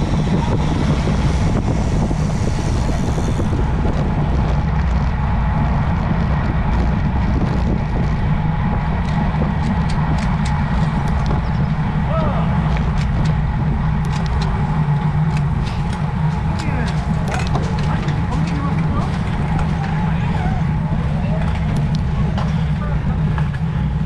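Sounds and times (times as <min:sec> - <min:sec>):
road rumble: 0:00.0 - 0:24.0
wind rushing on microphone: 0:00.0 - 0:24.0.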